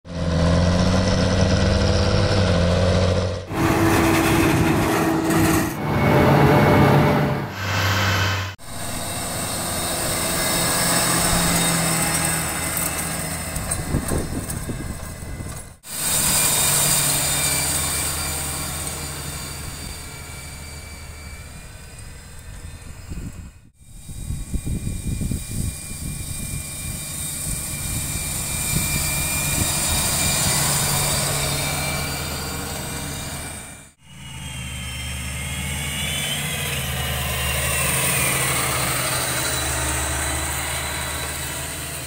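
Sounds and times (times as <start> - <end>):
tractor diesel engine under load: 0.1 - 23.8, 26.9 - 42.0.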